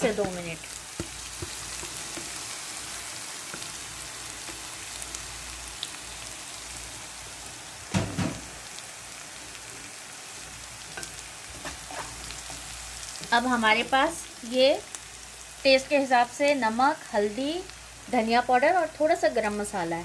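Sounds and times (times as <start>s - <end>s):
spices frying in hot oil: 0.0s - 20.0s.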